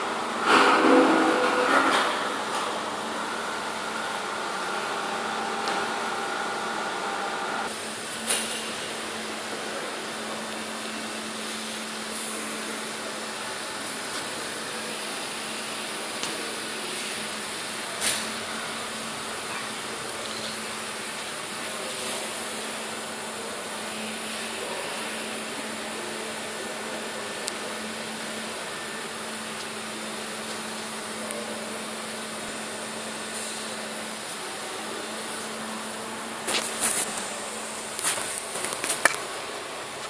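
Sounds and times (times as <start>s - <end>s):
hiss of workshop machinery: 0.3s - 2.9s, 7.2s - 40.0s.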